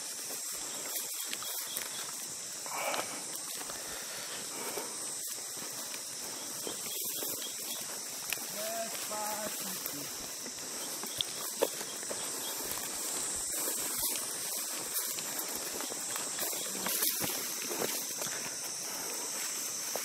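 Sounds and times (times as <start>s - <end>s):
footsteps through dry grass: 0.0s - 20.0s
insects buzzing: 0.0s - 20.0s.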